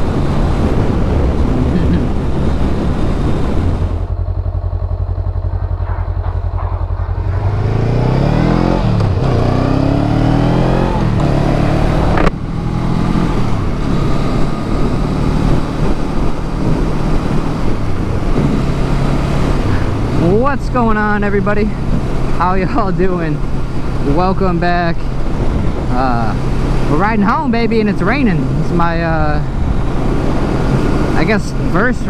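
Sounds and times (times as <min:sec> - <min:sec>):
motorcycle engine accelerating: 0:00.0 - 0:32.0
wind noise: 0:00.0 - 0:32.0.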